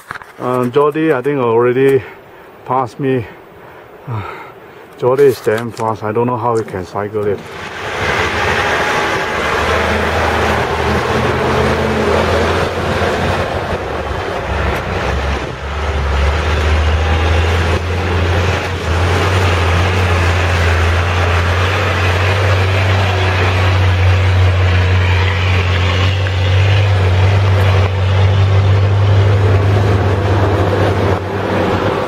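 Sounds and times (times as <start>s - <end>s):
diesel truck engines droning: 3.4s - 32.0s.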